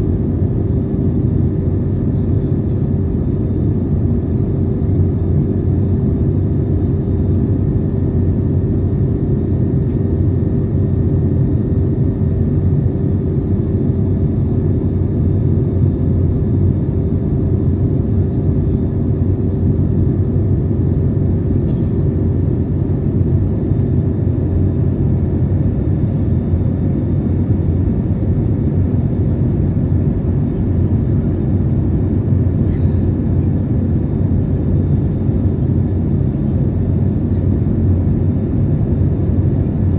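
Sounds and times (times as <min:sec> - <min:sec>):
airplane cabin drone: 0:00.0 - 0:39.9
steady hum tone: 0:00.0 - 0:39.9.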